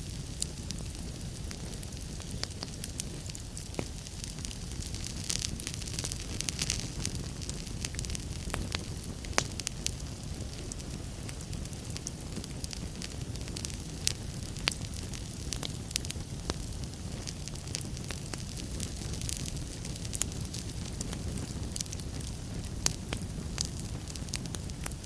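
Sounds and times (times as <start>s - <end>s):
fire crackles and pops: 0.0s - 25.0s
low rumble of flames: 0.0s - 25.0s.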